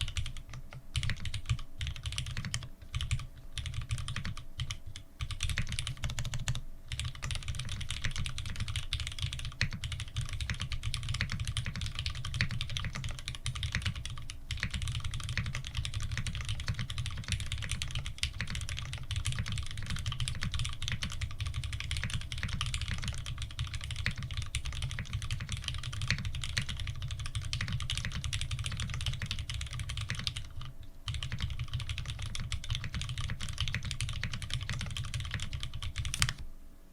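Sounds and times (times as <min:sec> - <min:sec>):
fast typing on mechanical keyboard: 0:00.0 - 0:36.4.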